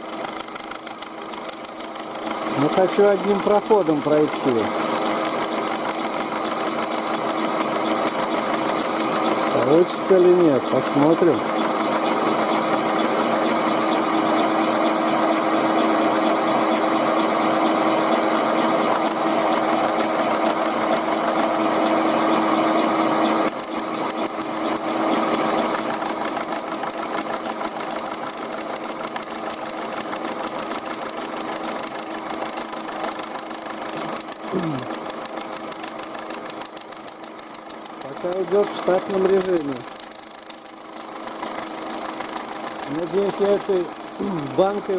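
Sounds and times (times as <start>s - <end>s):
cutter chattering on thin metal: 0.0s - 15.0s, 15.6s - 44.9s
milling machine humming: 0.0s - 44.9s.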